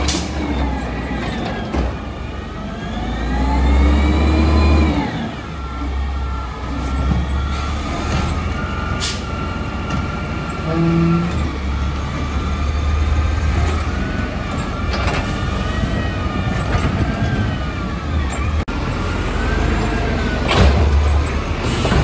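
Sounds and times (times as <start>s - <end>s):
garbage truck engine rumble: 0.0s - 22.0s.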